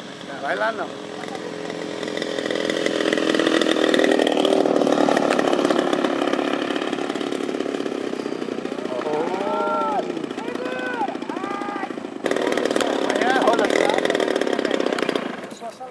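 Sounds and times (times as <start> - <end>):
model plane engine buzzing: 0.0 - 15.6.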